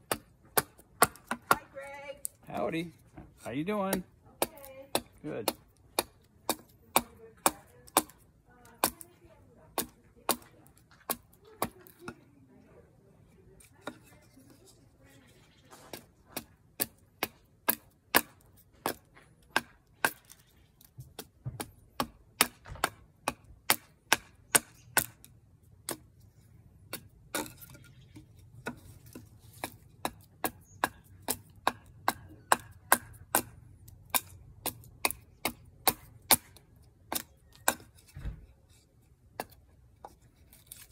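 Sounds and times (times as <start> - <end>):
hatchet chopping wood: 0.0 - 12.3, 15.9 - 40.9.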